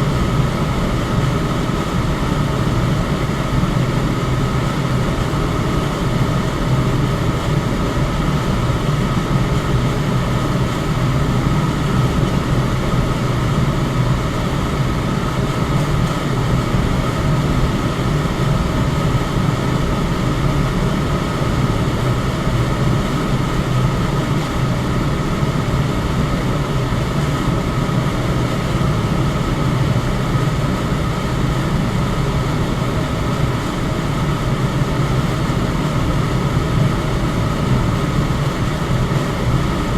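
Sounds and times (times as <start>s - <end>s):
electric fan whirring: 0.0s - 39.9s.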